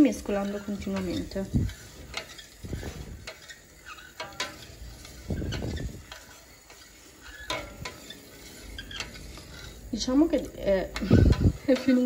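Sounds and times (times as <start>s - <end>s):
metal spoon scraping saucepan: 0.0s - 12.0s.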